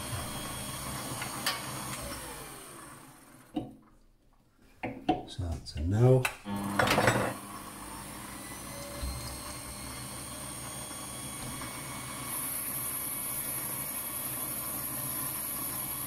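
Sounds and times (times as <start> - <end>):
lathe motor humming: 0.0 - 3.5, 6.5 - 16.0.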